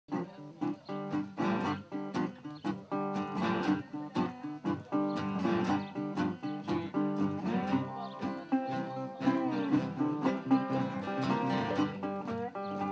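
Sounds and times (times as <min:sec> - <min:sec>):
acoustic guitars strumming: 0:00.1 - 0:12.9
resonator guitar: 0:00.1 - 0:12.9.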